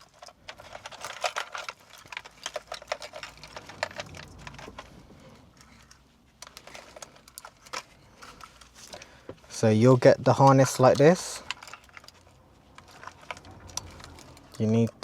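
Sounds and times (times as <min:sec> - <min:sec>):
plastic connectors clicking and rattling: 0:00.0 - 0:05.0, 0:05.6 - 0:09.1, 0:10.2 - 0:15.0.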